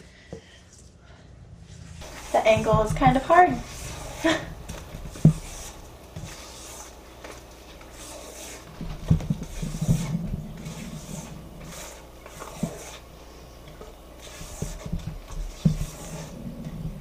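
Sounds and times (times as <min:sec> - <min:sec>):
spatula scraping a steel bowl: 0:02.0 - 0:17.0.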